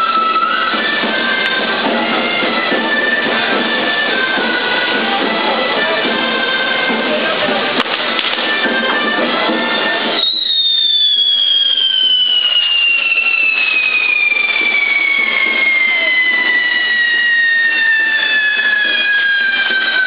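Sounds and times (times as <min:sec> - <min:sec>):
firework whistle falling in pitch: 0:00.0 - 0:20.0.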